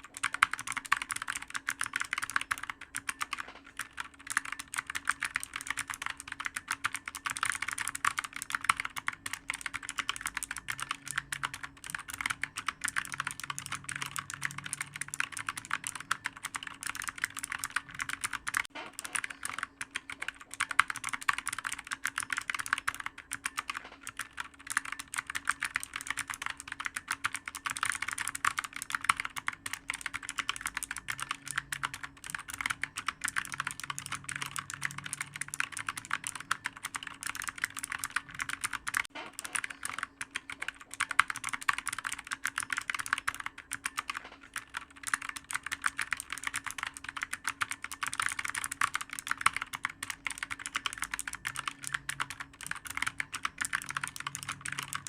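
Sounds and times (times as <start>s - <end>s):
faint steady hum: 0.0s - 55.0s
fast typing on keyboard: 0.0s - 55.0s.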